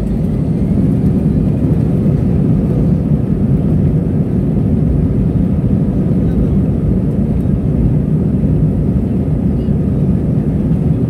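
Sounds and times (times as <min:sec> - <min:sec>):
jet engines and rolling rumble: 0:00.0 - 0:11.0.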